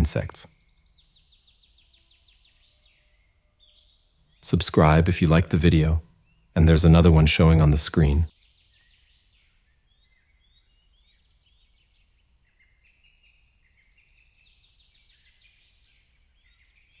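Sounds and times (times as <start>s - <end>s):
faint bird chirps and trills: 0.0s - 17.0s.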